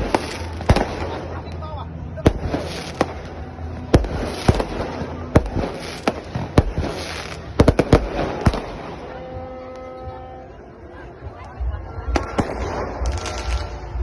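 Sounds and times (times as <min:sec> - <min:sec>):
fireworks crackling: 0:00.0 - 0:10.2, 0:11.6 - 0:14.0
fireworks bangs: 0:00.0 - 0:10.3, 0:12.0 - 0:14.0.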